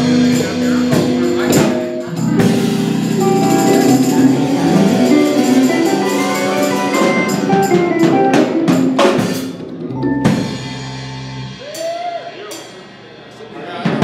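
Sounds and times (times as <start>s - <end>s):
drum and cymbal hits: 0.0s - 14.0s
live band playing: 0.0s - 14.0s.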